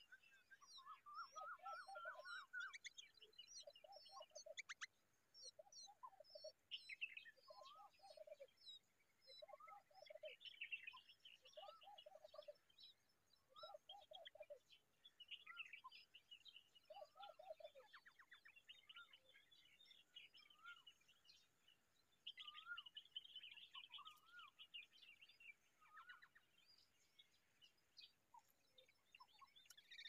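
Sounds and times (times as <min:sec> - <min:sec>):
birds chirping and twittering: 0:00.0 - 0:30.0.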